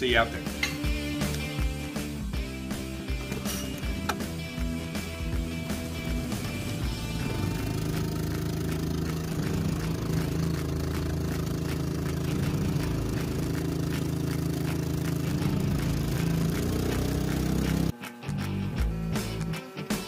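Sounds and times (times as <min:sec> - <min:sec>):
small outboard motor running: 0:00.4 - 0:20.0.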